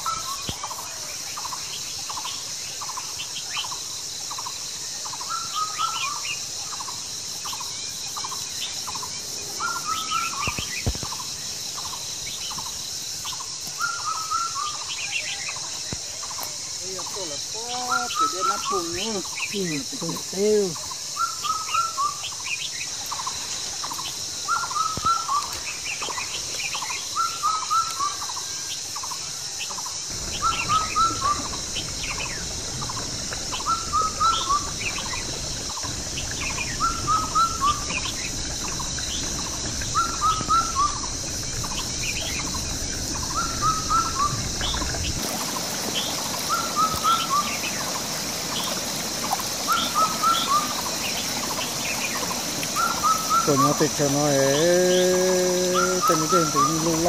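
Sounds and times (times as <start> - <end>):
songbird chirping: 0.0 - 57.0
steady high hiss: 0.0 - 57.0.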